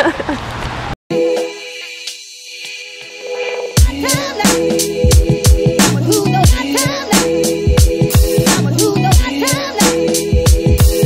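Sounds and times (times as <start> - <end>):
hip-hop track with heavy kick drum: 1.3 - 11.0.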